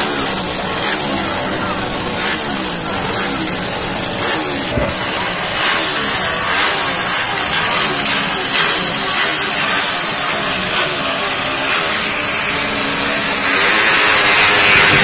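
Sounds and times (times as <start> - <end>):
crowd voices: 0.0 - 15.0
motorcycle engines revving: 0.0 - 15.0.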